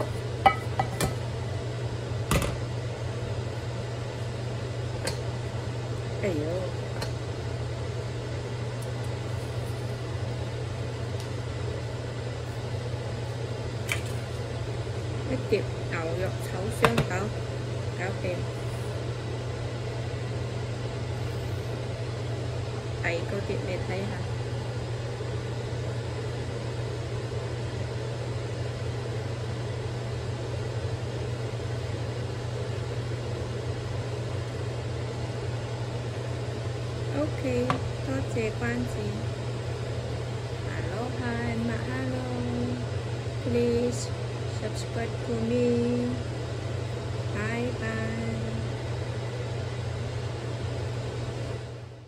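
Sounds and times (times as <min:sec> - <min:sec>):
kitchen fan whirring: 0:00.0 - 0:52.0
low machine hum: 0:00.0 - 0:52.0.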